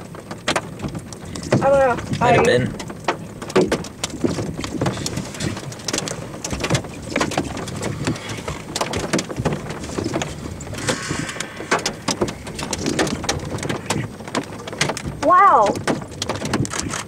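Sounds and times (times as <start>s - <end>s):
rain tapping on car roof: 0.0s - 17.0s.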